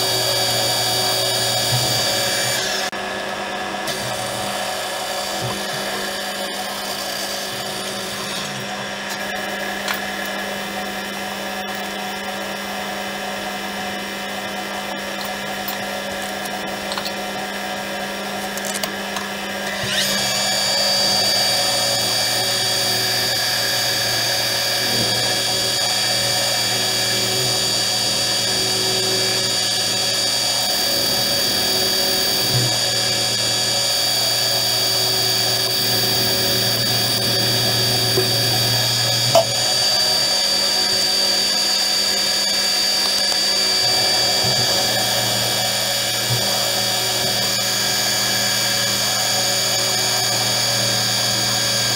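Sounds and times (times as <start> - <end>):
metal lathe whining: 0.0 - 51.9.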